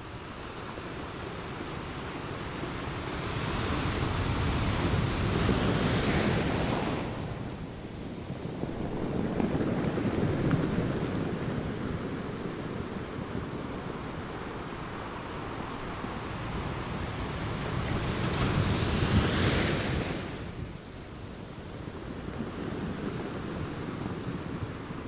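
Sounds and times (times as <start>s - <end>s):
surf washing on beach: 0.0s - 25.0s.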